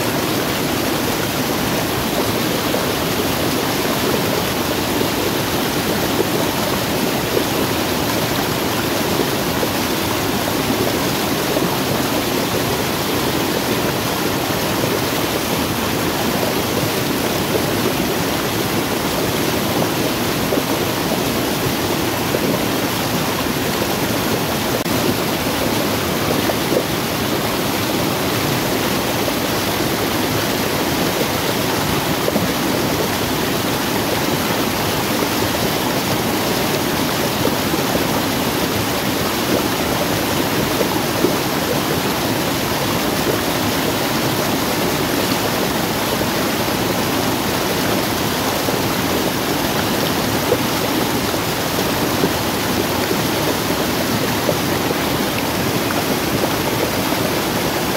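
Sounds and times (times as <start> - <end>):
water rushing over rocks: 0.0 - 57.9.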